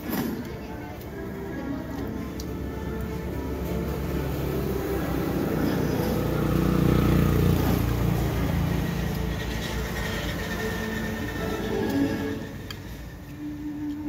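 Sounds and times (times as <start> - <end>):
passing vehicle engine rumble: 0.6 - 14.0.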